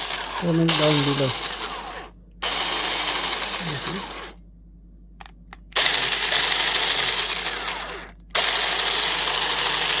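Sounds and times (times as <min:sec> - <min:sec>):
cordless mini chainsaw running: 0:00.0 - 0:04.4, 0:05.8 - 0:10.0.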